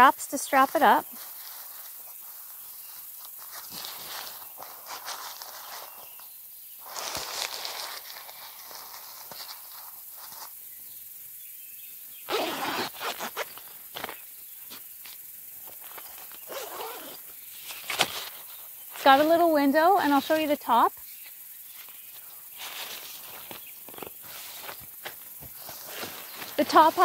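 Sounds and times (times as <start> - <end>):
tent fabric rustling: 0.3 - 10.7, 12.2 - 27.0.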